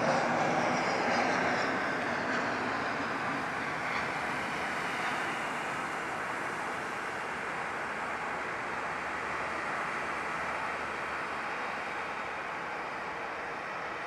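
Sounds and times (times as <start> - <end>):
jet engines at takeoff: 0.0 - 14.0.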